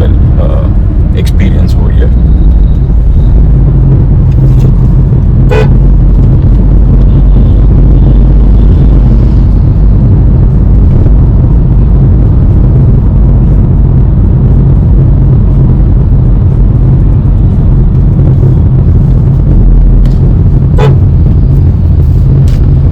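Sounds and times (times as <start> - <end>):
car cabin low rumble: 0.0 - 22.9.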